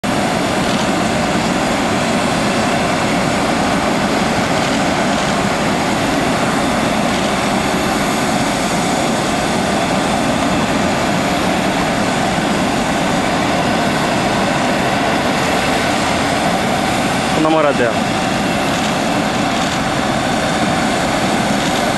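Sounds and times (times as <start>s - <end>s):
jet engines running: 0.0s - 21.9s.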